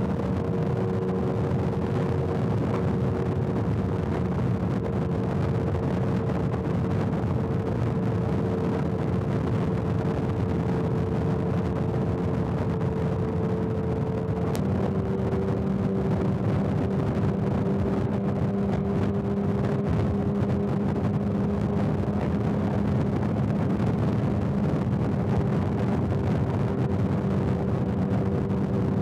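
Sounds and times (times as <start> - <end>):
motorcycle engine cruising: 0.0 - 29.0
wind and road noise: 0.0 - 29.0.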